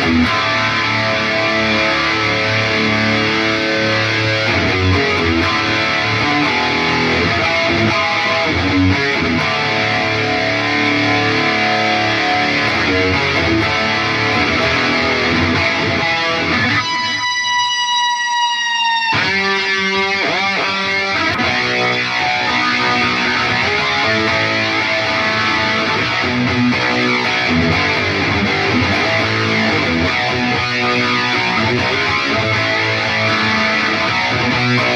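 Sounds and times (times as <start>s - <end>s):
distorted electric guitar runs: 0.0s - 34.9s.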